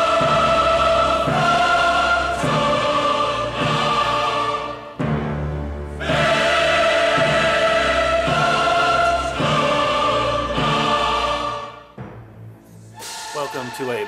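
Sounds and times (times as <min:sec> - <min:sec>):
choir-like voices holding chords: 0:00.0 - 0:14.0.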